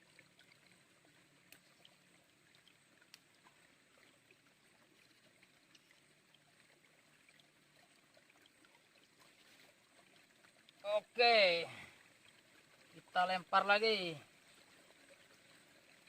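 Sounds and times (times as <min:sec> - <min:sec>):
faint river flow: 0:00.0 - 0:16.0.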